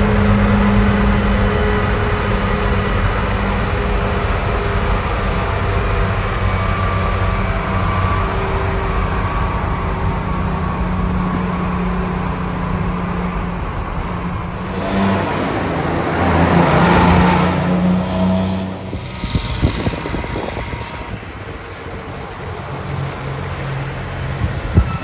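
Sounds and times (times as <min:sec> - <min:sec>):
diesel truck engine running: 0:00.0 - 0:25.0.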